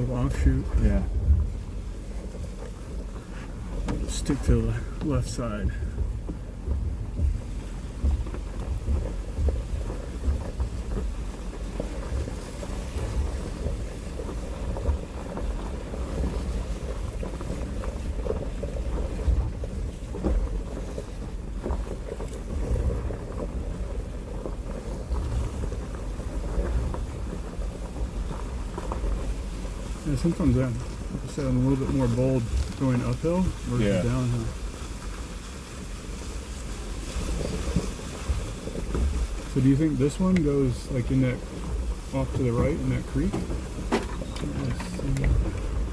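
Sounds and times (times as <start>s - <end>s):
suspension knocks: 0.0s - 35.0s, 37.2s - 45.9s
engine running at low revs: 0.0s - 45.9s.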